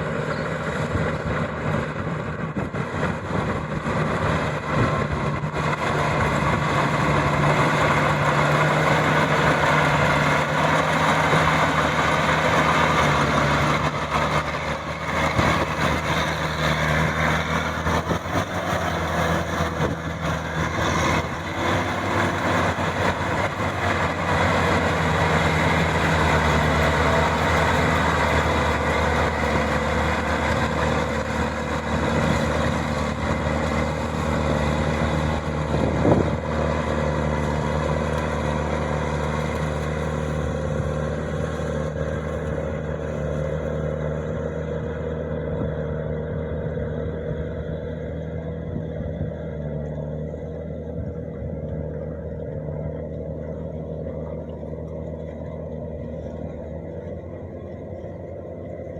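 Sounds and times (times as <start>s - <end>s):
diesel engine running steadily: 0.0s - 58.9s.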